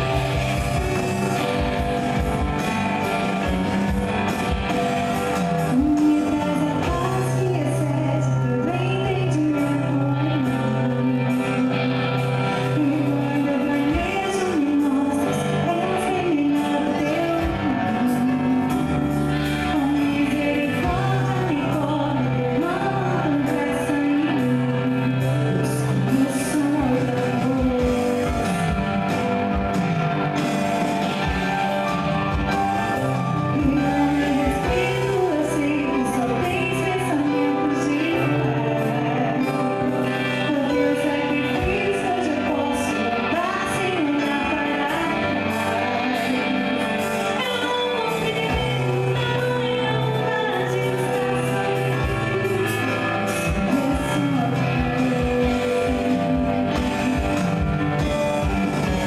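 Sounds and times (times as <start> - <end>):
electric guitar: 0.0 - 59.0
keyboard: 0.0 - 59.0
woman singing: 0.0 - 59.0.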